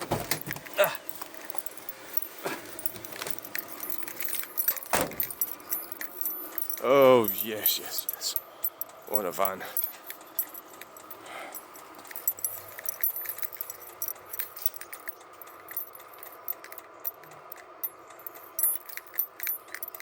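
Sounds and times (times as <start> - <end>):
air heater humming: 0.0 - 20.0
metallic jangling and clicking: 0.2 - 20.0.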